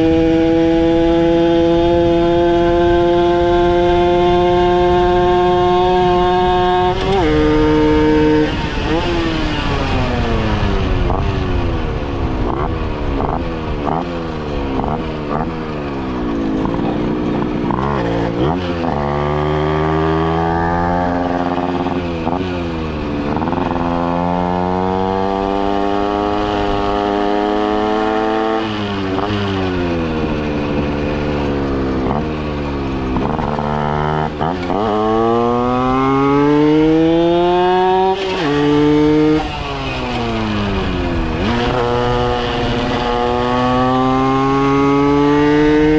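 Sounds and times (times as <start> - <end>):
two-stroke moped engine revving: 0.0 - 45.9.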